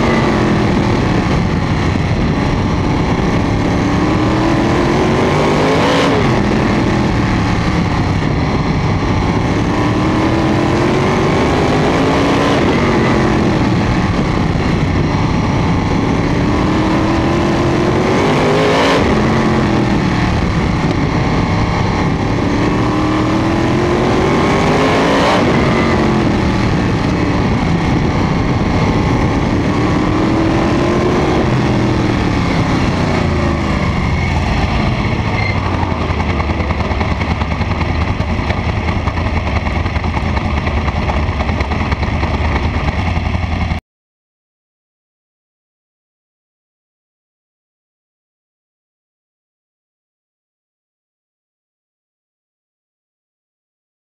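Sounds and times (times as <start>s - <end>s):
race car engine at speed: 0.0s - 43.8s.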